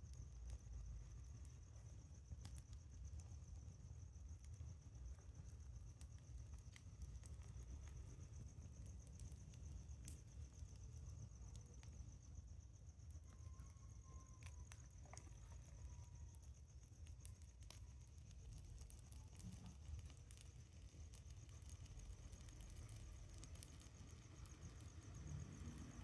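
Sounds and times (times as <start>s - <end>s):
campfire crackling and popping: 0.1s - 12.2s, 14.3s - 26.0s.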